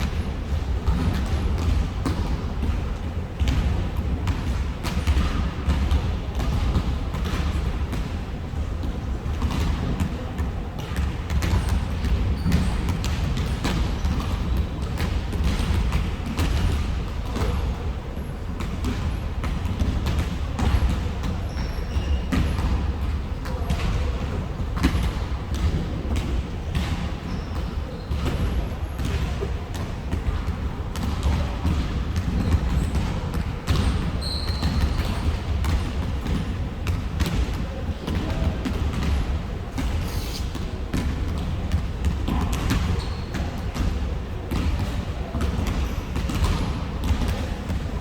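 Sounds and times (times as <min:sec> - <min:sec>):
basketballs bouncing on gym floor: 0:00.0 - 0:48.0
low rumble of hall: 0:00.0 - 0:48.0.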